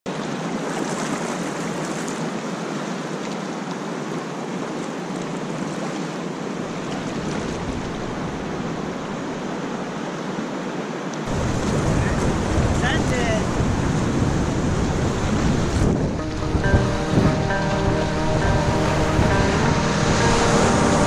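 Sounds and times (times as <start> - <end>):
whitewater rushing: 0.1 - 21.0.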